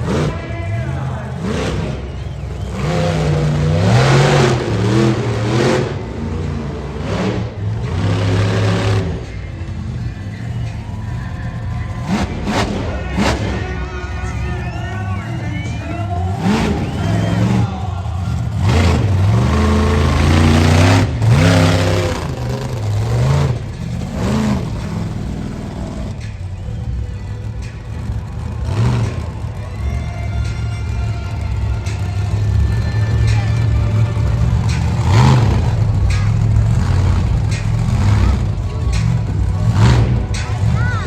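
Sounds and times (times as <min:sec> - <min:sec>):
monster truck engine revving: 0:00.0 - 0:41.0.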